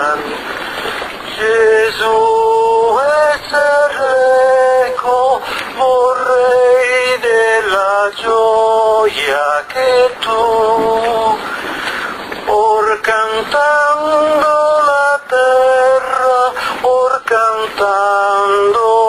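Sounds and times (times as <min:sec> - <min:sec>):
person singing a slow hymn: 0:00.0 - 0:19.0.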